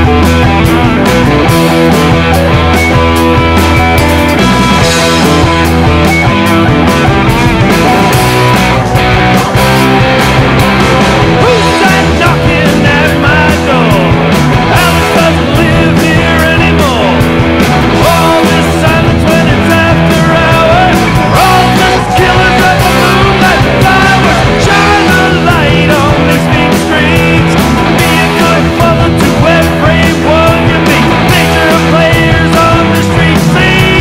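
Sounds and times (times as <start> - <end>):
lead guitar bending notes: 0.0 - 34.0
rock band with electric guitars: 0.0 - 34.0.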